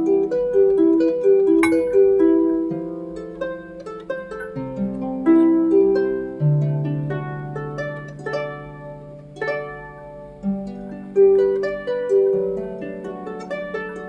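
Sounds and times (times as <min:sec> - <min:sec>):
plucked harp-like notes: 0:00.0 - 0:14.0.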